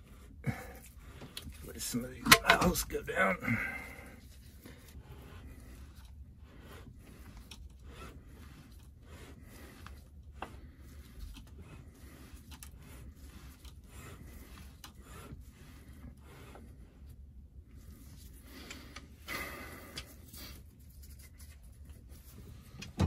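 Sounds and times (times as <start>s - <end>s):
cloth rag rubbing on metal: 0.0s - 22.9s
low steady hum: 0.0s - 23.0s.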